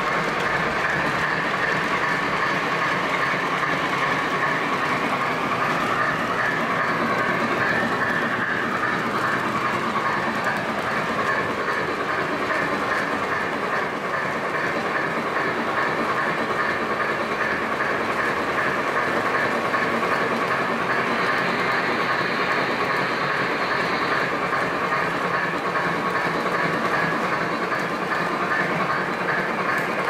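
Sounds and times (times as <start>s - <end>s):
model train wheels rumbling: 0.0s - 30.0s
regular track clicking: 0.0s - 30.0s.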